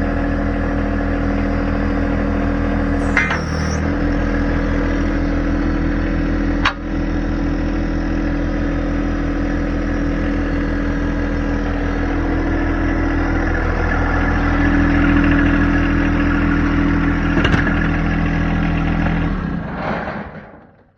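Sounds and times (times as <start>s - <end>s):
tractor diesel engine running: 0.0s - 19.8s.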